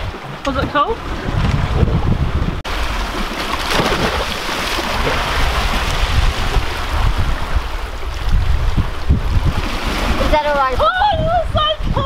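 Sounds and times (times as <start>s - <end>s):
ocean water rushing past boat: 0.0s - 12.0s
wind buffeting microphone: 0.0s - 12.0s.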